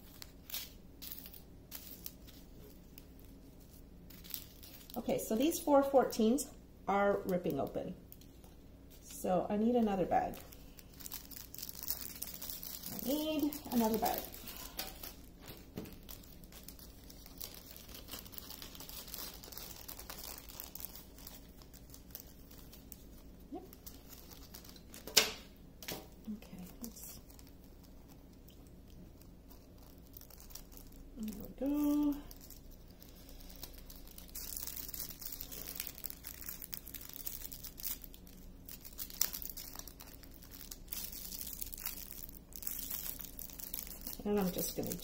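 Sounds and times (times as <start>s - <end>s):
plastic bags crinkling: 0.0s - 45.0s.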